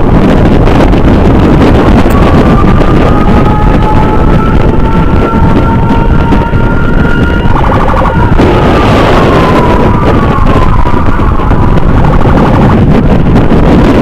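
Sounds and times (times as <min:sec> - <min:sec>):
emergency siren: 0:00.0 - 0:14.0
wind and road noise: 0:00.0 - 0:14.0.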